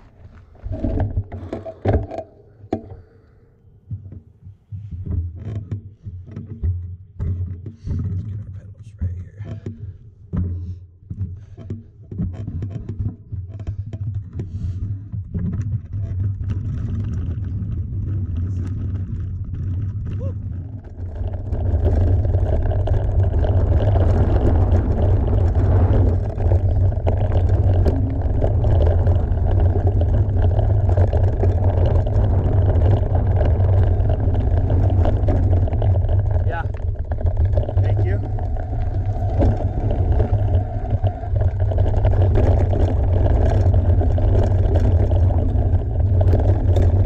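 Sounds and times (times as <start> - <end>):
bike tyre noise: 0.0 - 6.8, 7.6 - 47.0
wind rumbling on microphone: 0.0 - 10.6, 12.2 - 47.0
bike knocks and rattles: 3.8 - 47.0.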